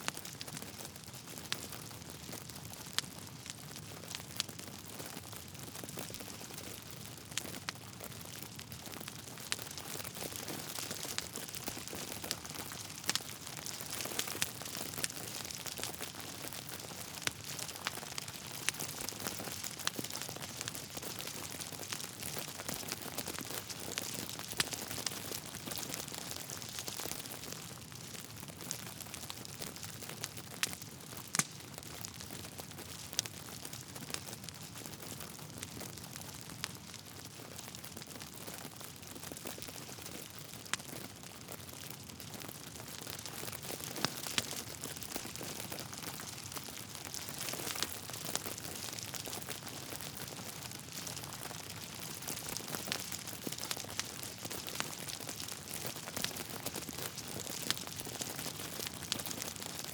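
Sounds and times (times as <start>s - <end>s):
fire crackling: 0.1s - 59.9s.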